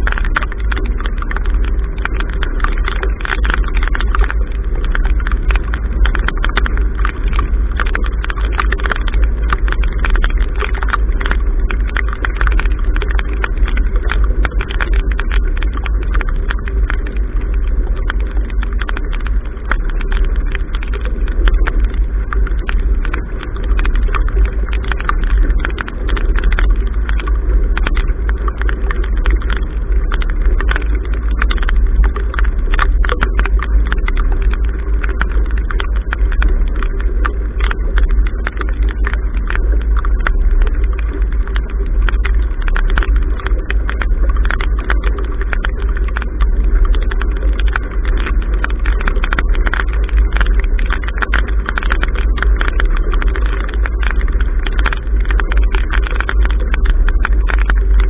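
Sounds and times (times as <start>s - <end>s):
rain ticking on camera case: 0.0s - 58.0s.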